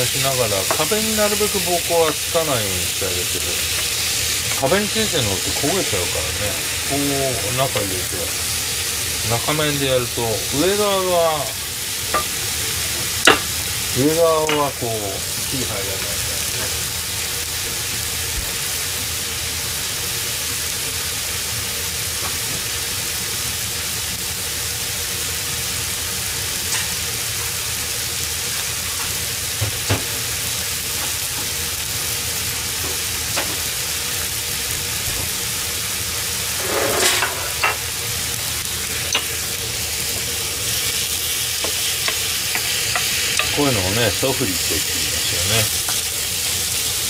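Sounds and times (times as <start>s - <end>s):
vegetables sizzling in frying pan: 0.0s - 47.0s.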